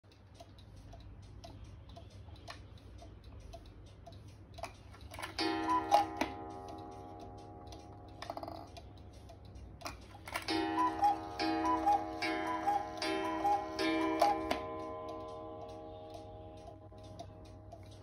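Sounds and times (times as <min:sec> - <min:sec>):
clock ticking: 0:00.0 - 0:18.0
clock mechanism clicks: 0:00.1 - 0:18.0.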